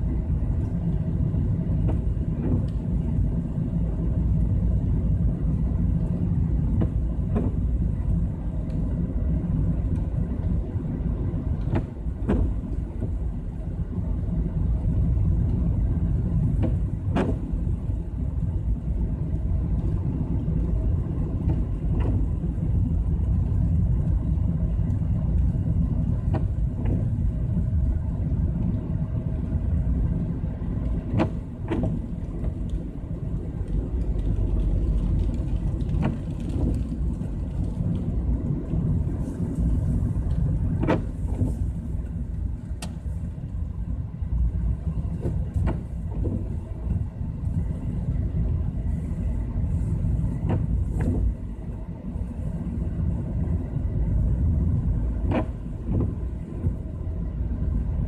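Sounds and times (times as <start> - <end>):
engine and tyres rumbling: 0.0 - 58.0.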